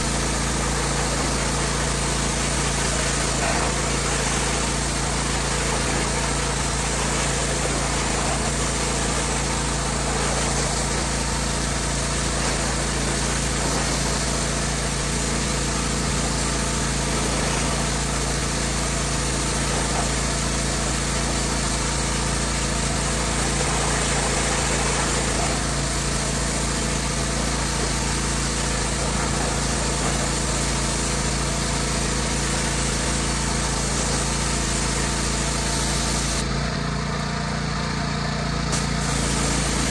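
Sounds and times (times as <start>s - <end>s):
water jet hissing on siding: 0.0s - 36.6s, 38.6s - 39.9s
pressure washer engine running: 0.0s - 39.9s.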